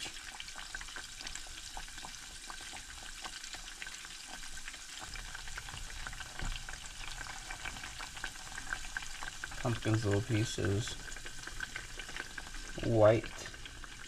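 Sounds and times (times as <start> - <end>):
fish frying in crackling oil: 0.0 - 14.0.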